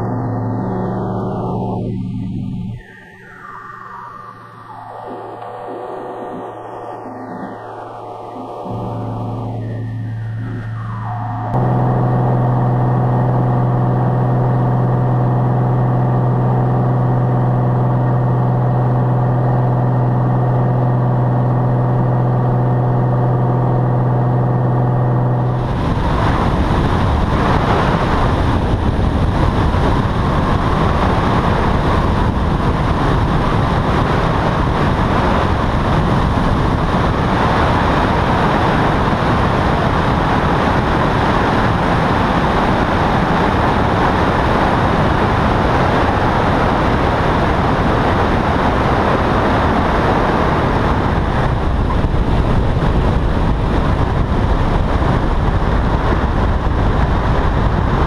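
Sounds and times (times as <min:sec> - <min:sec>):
wind rushing: 0:00.0 - 0:14.6, 0:23.8 - 0:58.0
light aircraft engine drone: 0:00.0 - 0:58.0.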